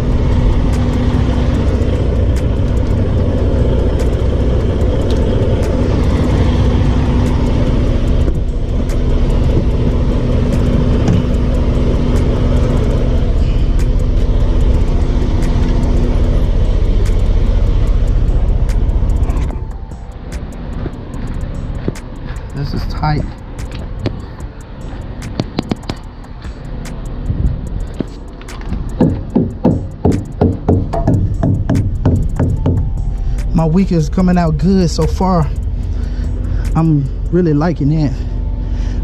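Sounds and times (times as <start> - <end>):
diesel truck engine idling: 0.0 - 39.0
steady hum: 0.0 - 39.0.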